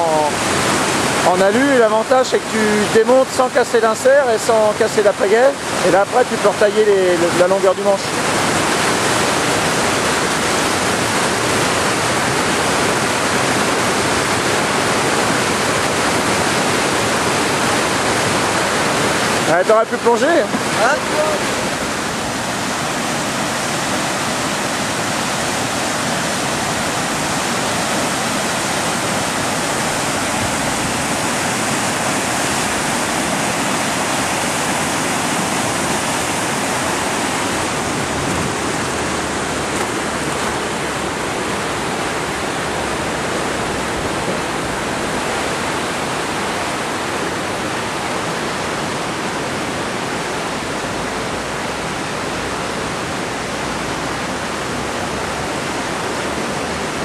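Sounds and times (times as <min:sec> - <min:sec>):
whitewater rushing: 0:00.0 - 0:57.0.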